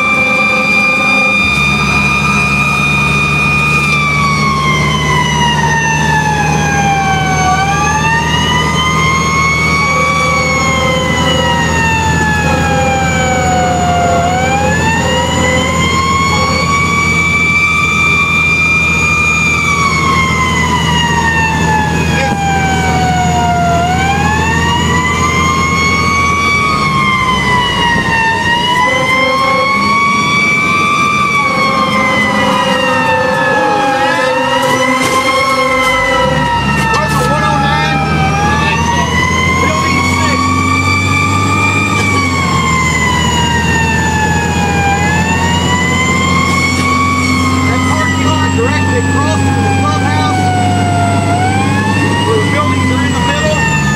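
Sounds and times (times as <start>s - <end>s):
fire truck siren wailing: 0.0s - 53.9s
truck engine low drone: 0.0s - 53.9s.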